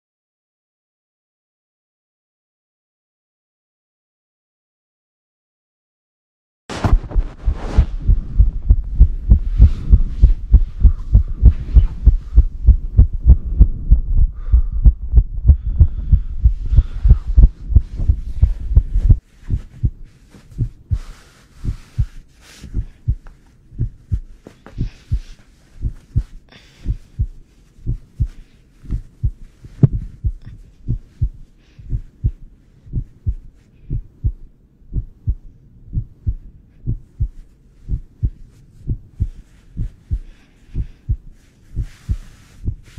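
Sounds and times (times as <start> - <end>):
heartbeat thumps: 6.7 - 42.9.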